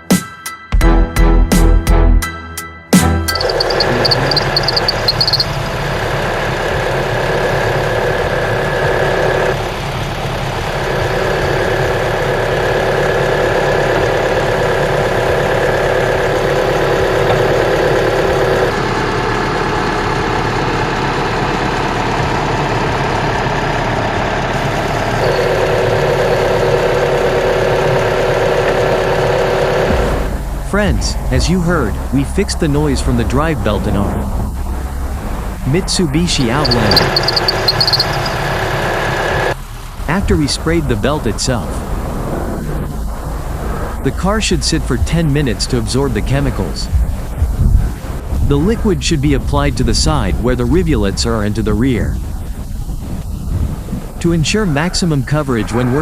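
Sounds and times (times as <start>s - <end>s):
car engine idling: 3.2s - 56.0s.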